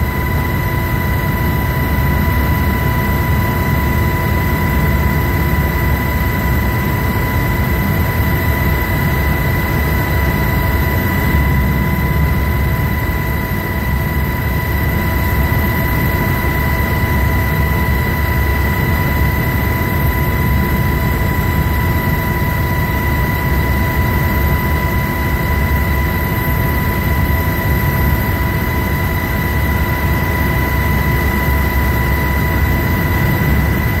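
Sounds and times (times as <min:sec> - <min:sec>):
helicopter high whine: 0:00.0 - 0:34.0
helicopter rumble: 0:00.0 - 0:34.0.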